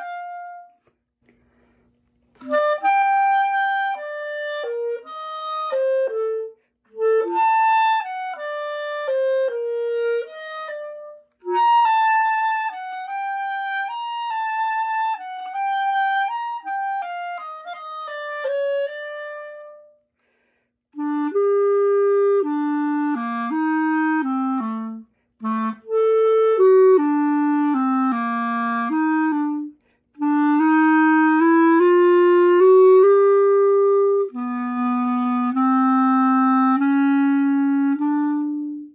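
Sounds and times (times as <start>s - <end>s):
wind instrument slow melody: 0.0s - 20.1s, 20.9s - 38.9s.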